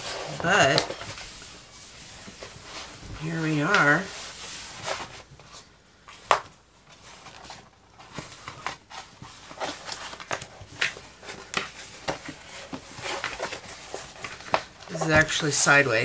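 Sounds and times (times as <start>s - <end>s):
plastic film crinkling: 0.0s - 16.0s.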